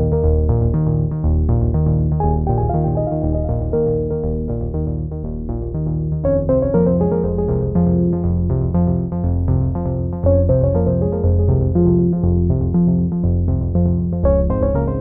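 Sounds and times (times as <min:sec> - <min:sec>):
low bass line: 0:00.0 - 0:15.0
synthesizer and keyboard notes: 0:00.0 - 0:15.0.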